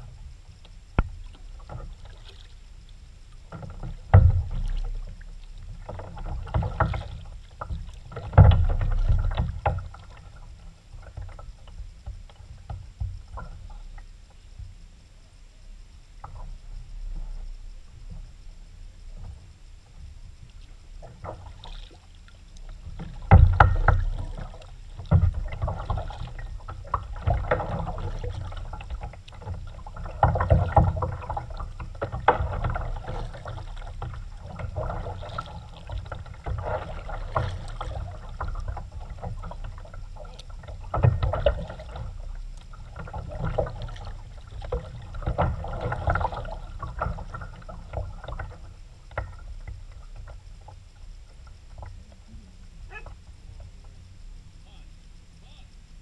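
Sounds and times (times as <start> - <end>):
paddle strokes splashing water: 0.9 - 14.7, 16.2 - 55.6.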